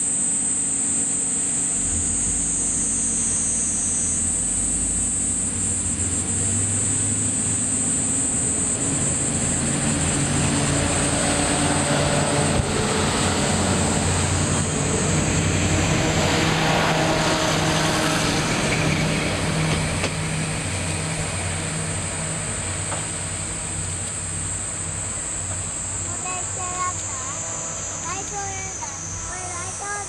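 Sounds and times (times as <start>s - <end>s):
railcar engine droning: 0.9s - 30.0s.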